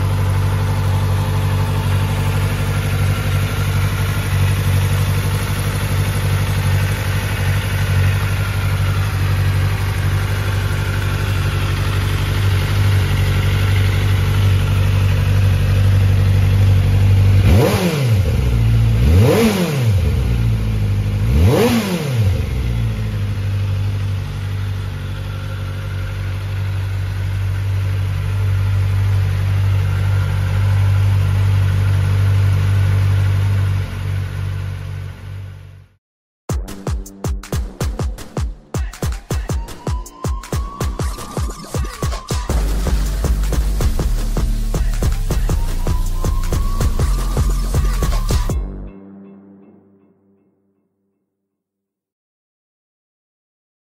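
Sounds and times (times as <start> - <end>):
motorcycle engine idling and revving: 0.0 - 48.8.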